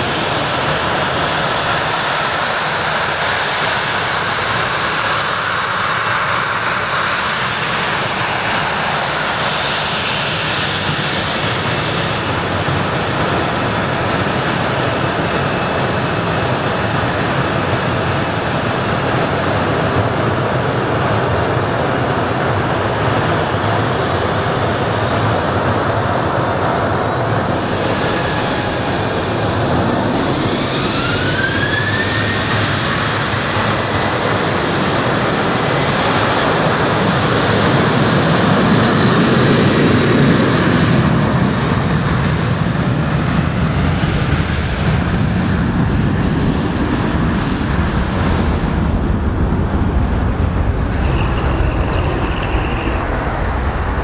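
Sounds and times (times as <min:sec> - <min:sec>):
jet engines spooling up: 0:00.0 - 0:41.8, 0:45.8 - 0:54.0.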